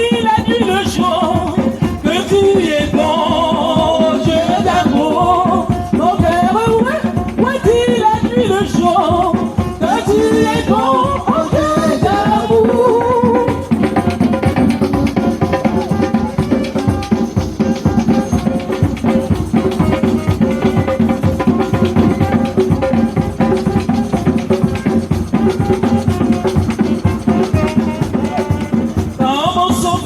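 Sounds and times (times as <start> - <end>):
band playing instrumental hymn: 0.0 - 30.0
drum kit fast steady beat: 0.0 - 30.0.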